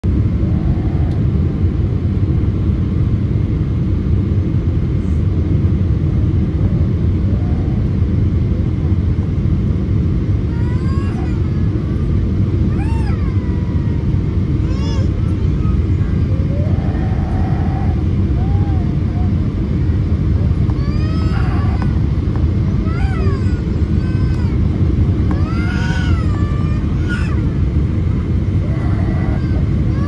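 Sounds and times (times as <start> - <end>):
jet engine rumble in cabin: 0.0 - 30.0.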